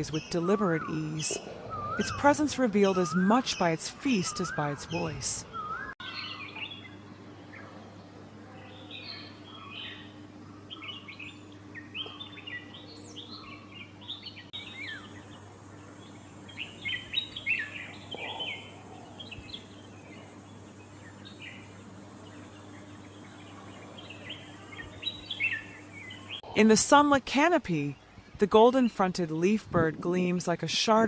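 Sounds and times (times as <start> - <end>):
birds chirping: 0.0 - 29.4
faint low hum: 0.0 - 30.9.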